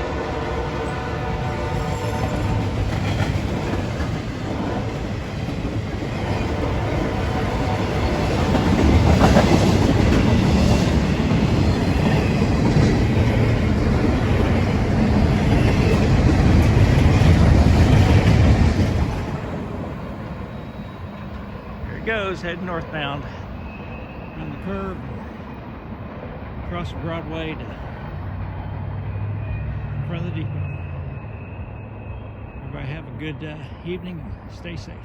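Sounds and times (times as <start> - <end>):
train passing close by: 0.0 - 35.0.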